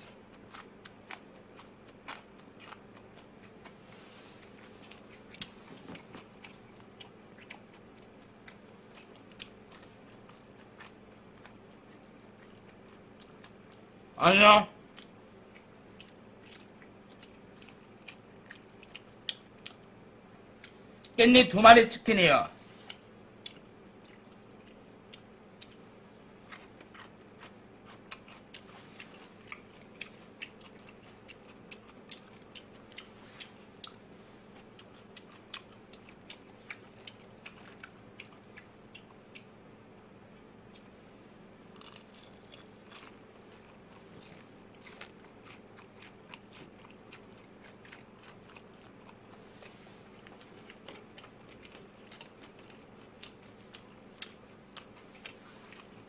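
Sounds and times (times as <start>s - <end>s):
person chewing crunchy food: 0.0s - 14.2s, 14.9s - 21.2s, 22.6s - 56.0s.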